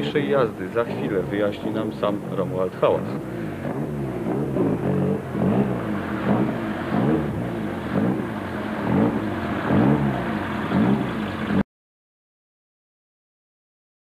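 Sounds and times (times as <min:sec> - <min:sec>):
engine revving up and down: 0:00.0 - 0:11.6.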